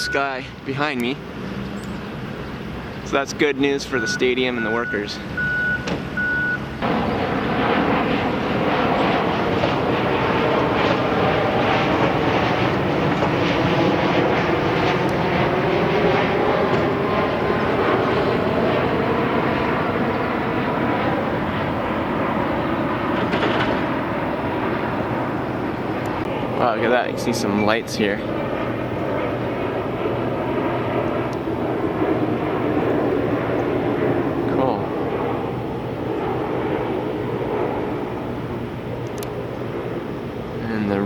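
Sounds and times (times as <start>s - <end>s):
jet airliner passing overhead: 0.0s - 41.0s.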